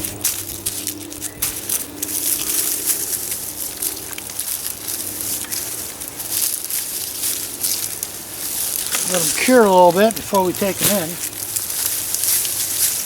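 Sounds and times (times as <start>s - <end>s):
dry onion tops crackling: 0.0s - 13.0s.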